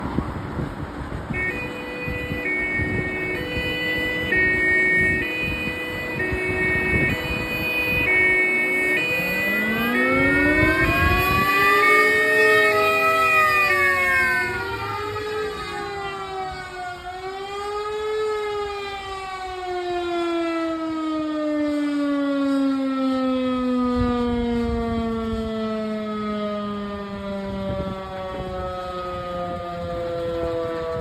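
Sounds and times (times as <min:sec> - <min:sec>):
fire siren winding down: 0:01.2 - 0:31.0.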